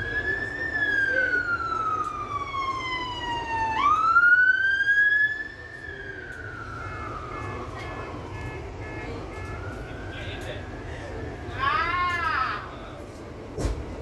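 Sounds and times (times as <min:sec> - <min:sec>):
fire engine siren wailing: 0:00.0 - 0:13.0
traffic rumble: 0:00.0 - 0:14.0.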